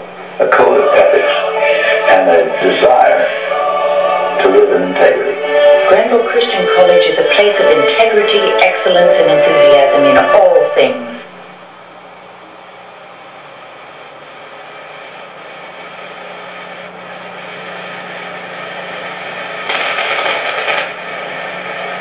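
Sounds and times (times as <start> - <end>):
low steady hum: 0.0 - 22.0
videotape hiss: 0.0 - 22.0.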